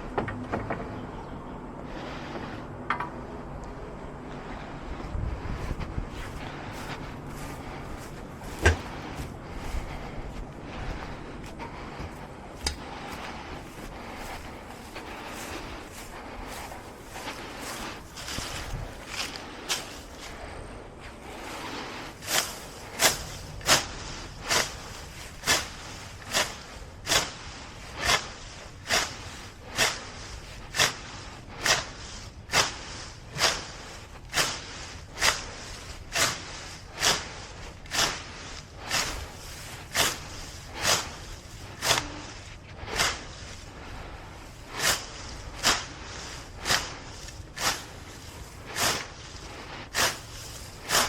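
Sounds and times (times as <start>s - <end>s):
grass being cut by hand: 5.6s - 51.0s.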